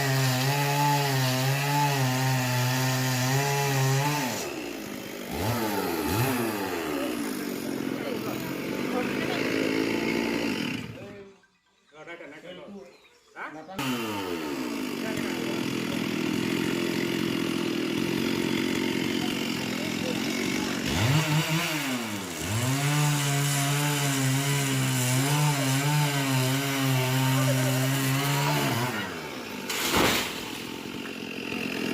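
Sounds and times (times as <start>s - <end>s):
chainsaw cutting tree trunk: 0.0s - 11.2s, 13.8s - 31.9s.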